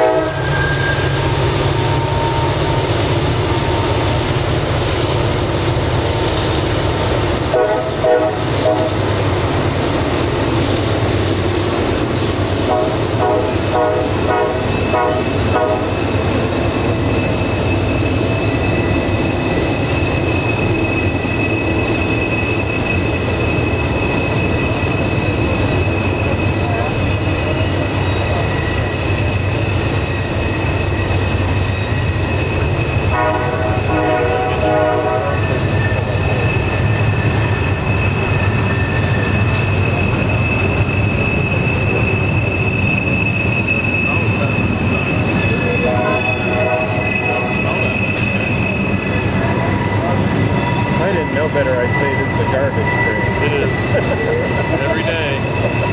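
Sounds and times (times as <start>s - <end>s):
high wheel-flange squeal: 0.0s - 55.9s
wheels rumbling on rail: 0.0s - 55.9s
fluttering pulsing squeal: 0.4s - 7.1s, 14.6s - 33.1s, 35.3s - 55.9s.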